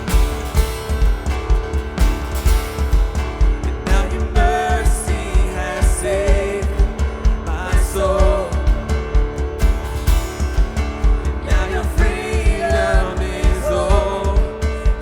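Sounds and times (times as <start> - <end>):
kick drum beat: 0.0 - 15.0
live worship band playing: 0.0 - 15.0
voices singing: 0.0 - 15.0.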